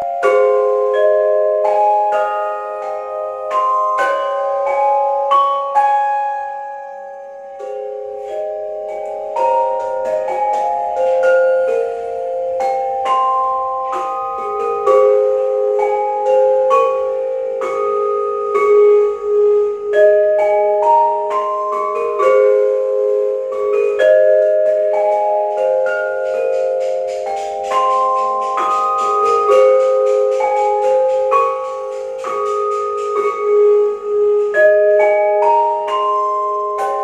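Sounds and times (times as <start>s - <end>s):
mallet keyboard duet: 0.0s - 37.0s.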